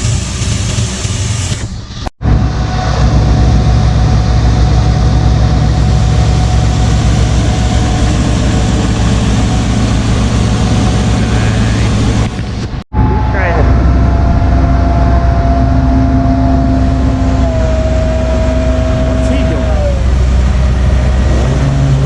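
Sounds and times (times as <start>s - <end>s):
large diesel engine running: 0.0s - 22.0s
thin steady whine: 2.2s - 22.0s.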